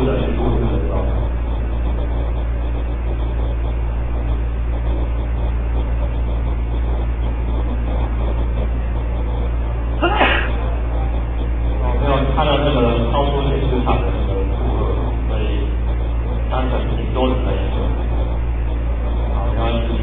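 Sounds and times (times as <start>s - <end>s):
background rumble: 0.0s - 20.0s
steady low hum: 0.0s - 20.0s.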